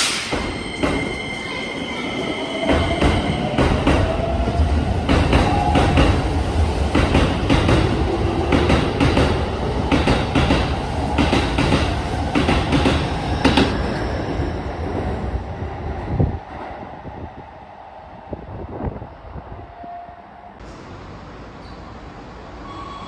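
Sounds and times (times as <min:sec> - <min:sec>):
train rumble: 0:00.0 - 0:19.7.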